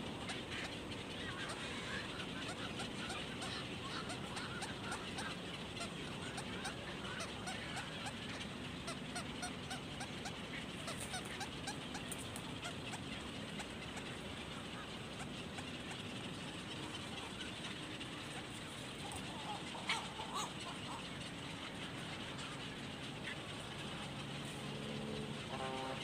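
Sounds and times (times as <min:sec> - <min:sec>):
birds calling: 0:00.0 - 0:26.0
steady background hiss: 0:00.0 - 0:26.0.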